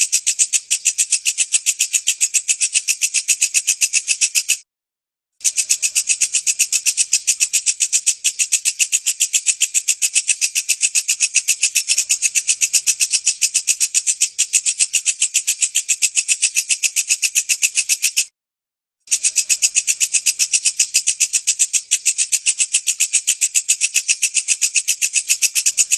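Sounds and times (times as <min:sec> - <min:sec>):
insect pulsed chirring: 0:00.0 - 0:04.6, 0:05.4 - 0:18.3, 0:19.1 - 0:25.9.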